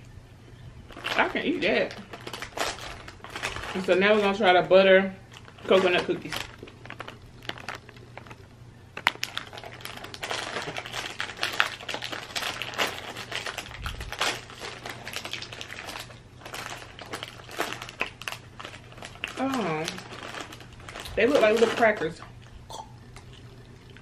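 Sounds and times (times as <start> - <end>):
plastic wrapper crinkling: 0.8 - 22.6.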